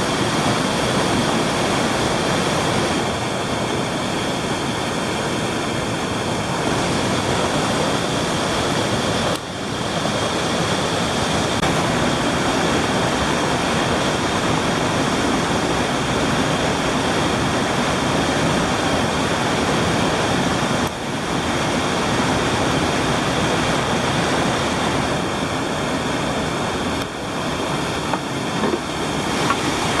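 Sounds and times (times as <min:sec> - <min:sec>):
whitewater rushing through rapid: 0:00.0 - 0:30.0.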